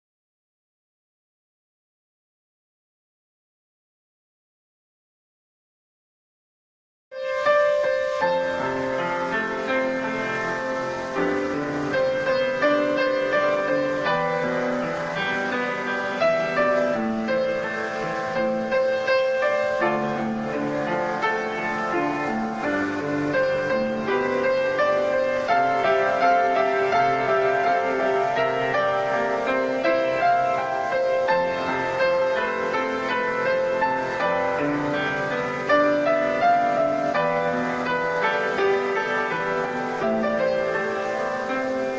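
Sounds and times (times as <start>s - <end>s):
slow piano melody: 7.1s - 41.9s.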